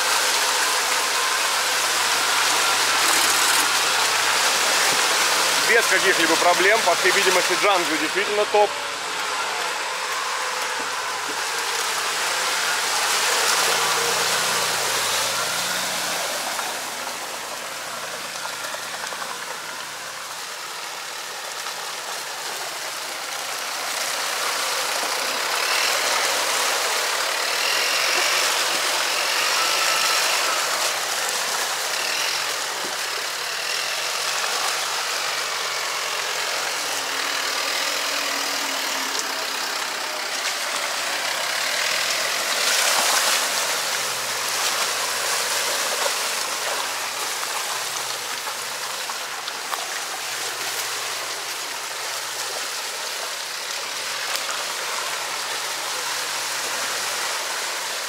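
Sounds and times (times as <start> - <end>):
continuous hiss: 0.0 - 58.0
off-road vehicle engine running: 0.0 - 58.0.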